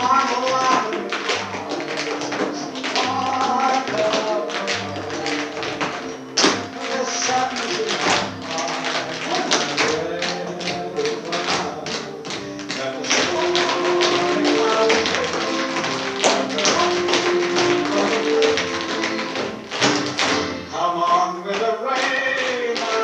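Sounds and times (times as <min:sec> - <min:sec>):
foot stamp: 0:00.0 - 0:23.0
recorded music: 0:00.0 - 0:23.0
tap shoes clicking on floor: 0:00.0 - 0:23.0.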